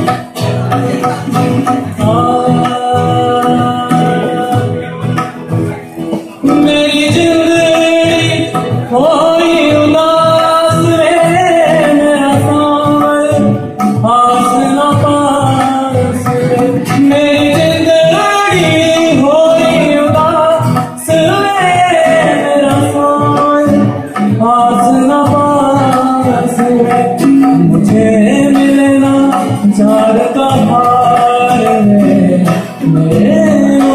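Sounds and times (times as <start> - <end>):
man singing: 0.0 - 33.9
strummed acoustic guitar: 0.0 - 33.9.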